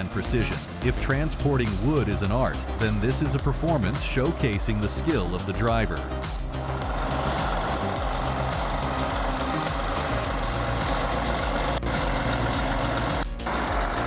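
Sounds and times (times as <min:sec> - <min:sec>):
background music: 0:00.0 - 0:14.0
truck engine running: 0:00.0 - 0:14.0.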